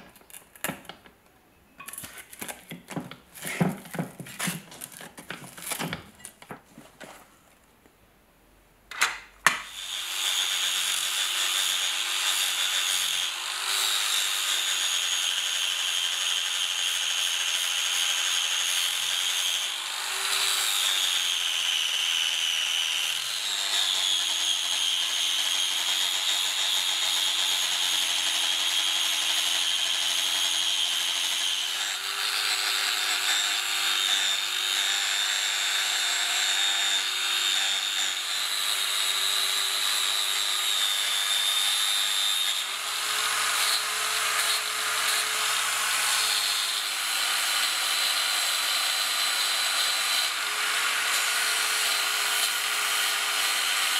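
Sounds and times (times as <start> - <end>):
angle grinder grinding metal: 9.6 - 53.9.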